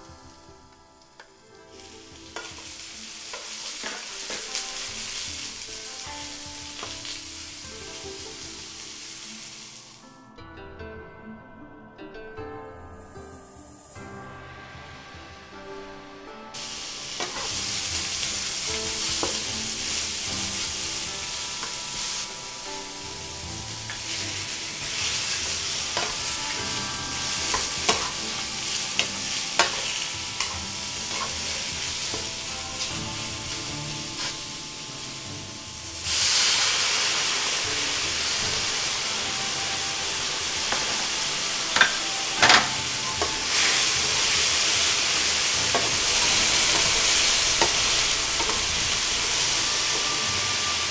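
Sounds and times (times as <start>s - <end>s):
food sizzling in a wok: 0.0s - 10.1s, 13.3s - 50.9s.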